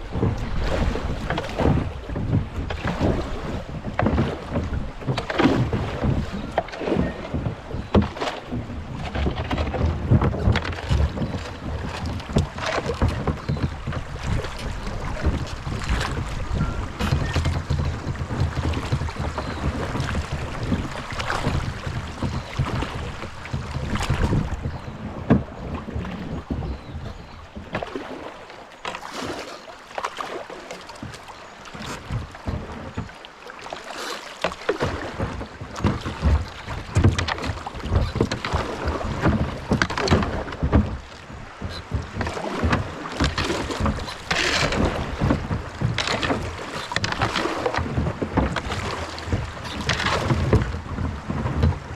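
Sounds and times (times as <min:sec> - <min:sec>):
wind rumbling on microphone: 0:00.0 - 0:28.2, 0:34.9 - 0:51.9
kayak paddle strokes: 0:00.0 - 0:51.9
water splashing around hull: 0:00.0 - 0:51.9.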